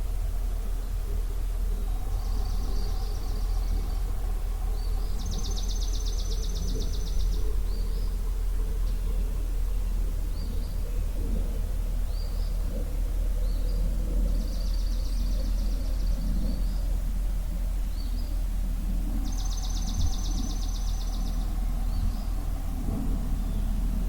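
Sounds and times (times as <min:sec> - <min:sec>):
birdsong: 0:00.0 - 0:24.0
songbird trill: 0:00.0 - 0:24.0
steady low rumble: 0:00.0 - 0:24.0.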